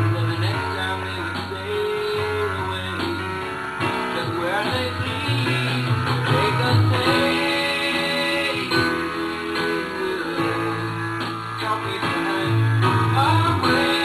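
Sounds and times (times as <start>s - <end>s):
instrumental guitar music: 0.0s - 14.0s.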